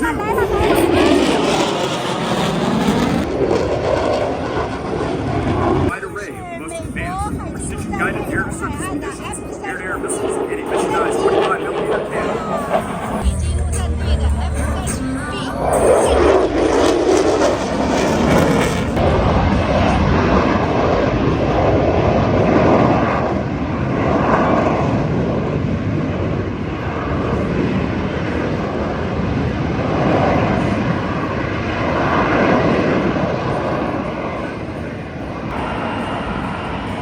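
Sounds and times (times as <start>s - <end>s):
fighter jet engine roar: 0.0s - 37.0s.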